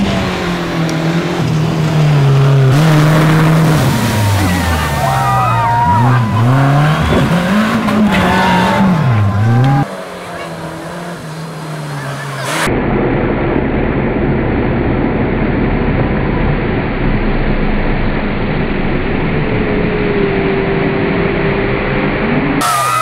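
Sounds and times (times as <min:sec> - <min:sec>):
engine running hard: 0:00.0 - 0:23.0.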